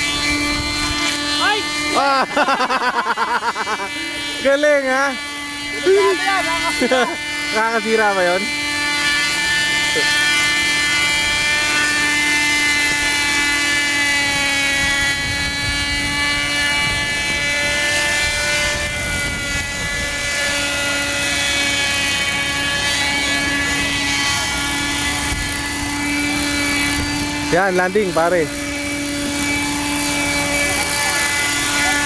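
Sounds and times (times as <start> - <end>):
model helicopter engine and rotor: 0.0 - 32.0.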